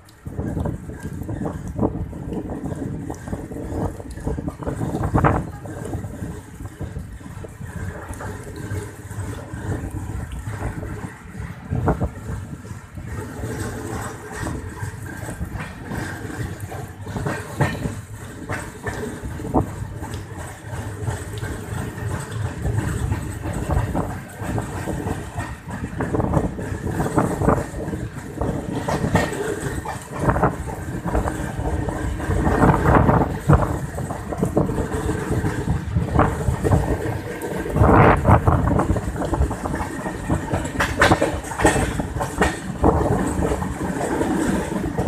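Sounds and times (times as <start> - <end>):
train running rumble: 0.0 - 45.0
wheels clacking over rail joints: 0.0 - 45.0.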